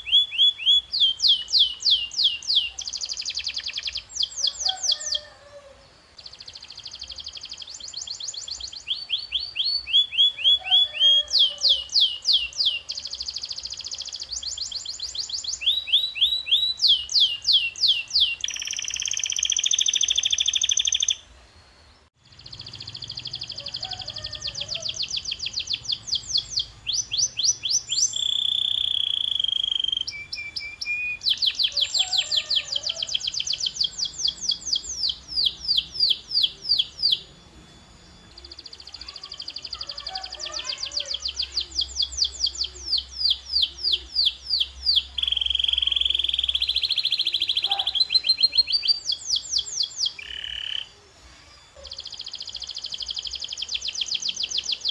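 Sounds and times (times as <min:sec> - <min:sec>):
canary singing: 0:00.0 - 0:21.3, 0:22.2 - 0:54.9.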